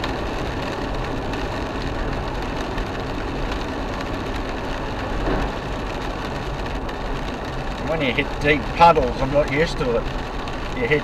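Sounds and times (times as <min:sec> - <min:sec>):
car engine running: 0:00.0 - 0:11.0
tyres hissing on wet road: 0:00.0 - 0:11.0.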